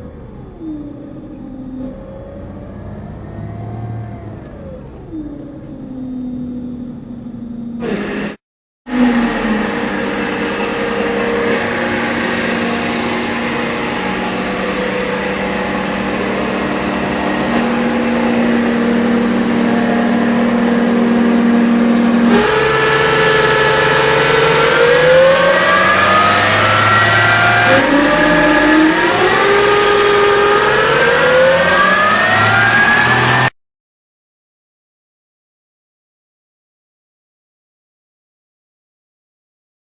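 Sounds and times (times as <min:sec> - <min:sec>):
engine running: 0:00.0 - 0:33.5
transmission whining: 0:00.0 - 0:33.5.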